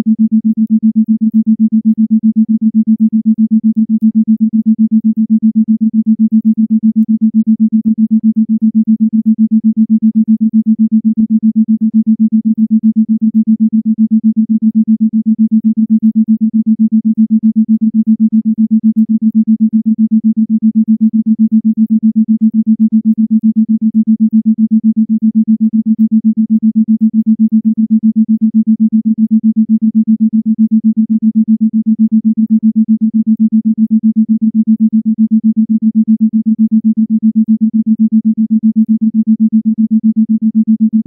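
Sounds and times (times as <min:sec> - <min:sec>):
pulsing low tone: 0:00.0 - 0:41.0.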